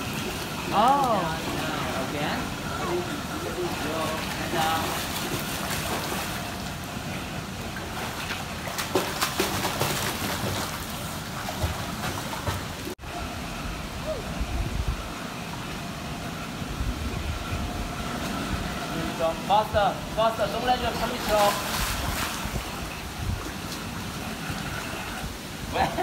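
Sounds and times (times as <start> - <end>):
pool water splashing: 0.0 - 26.0.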